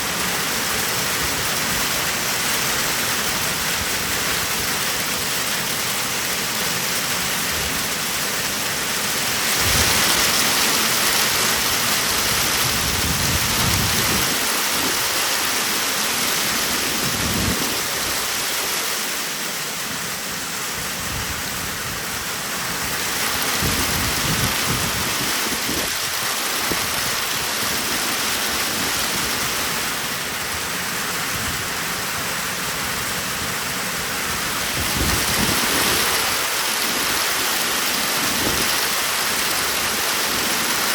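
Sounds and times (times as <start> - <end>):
heavy rain and hail: 0.0 - 40.9.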